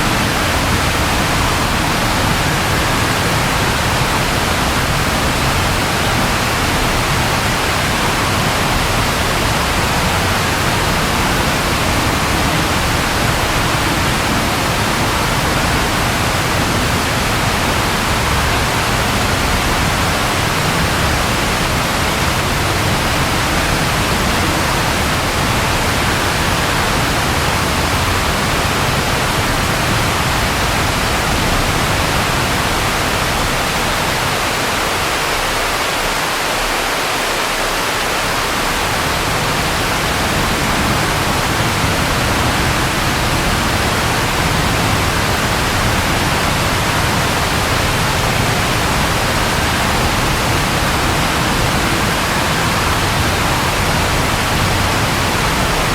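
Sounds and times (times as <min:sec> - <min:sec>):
steady rain hissing: 0:00.0 - 0:55.9.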